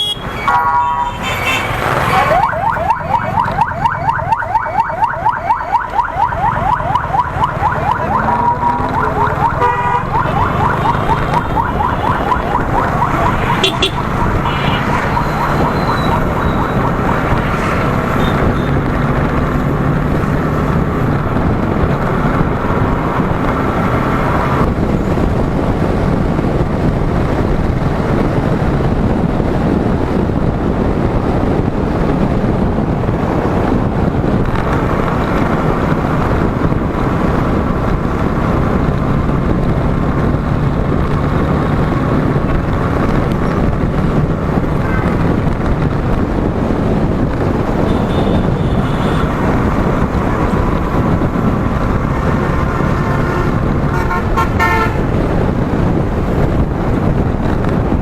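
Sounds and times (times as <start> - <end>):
wind rushing over microphone: 0.0 - 58.0
motorcycle engine drone: 1.7 - 58.0.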